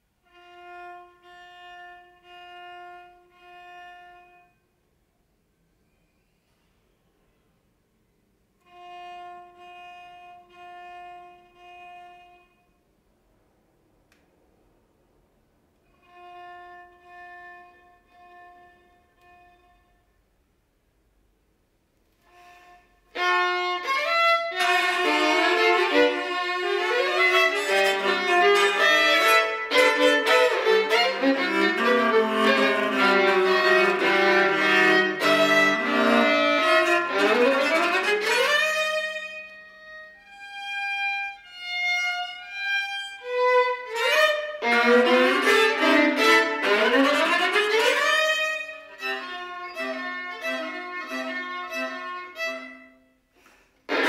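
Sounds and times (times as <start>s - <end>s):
violin and viola duo: 0.0s - 4.6s, 8.6s - 12.8s, 15.9s - 20.2s, 22.1s - 54.0s.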